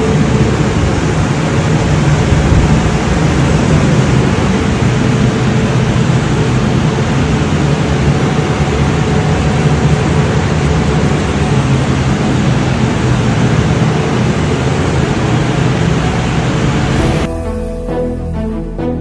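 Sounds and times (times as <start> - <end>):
spray painting equipment running: 0.0 - 17.3.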